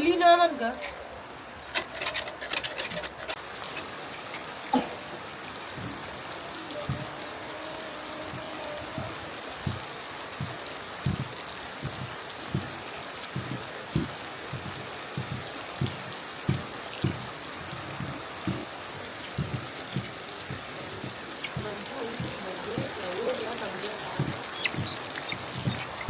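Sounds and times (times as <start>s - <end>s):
heavy rain falling: 0.0s - 26.0s
large raindrops thudding: 0.0s - 26.0s.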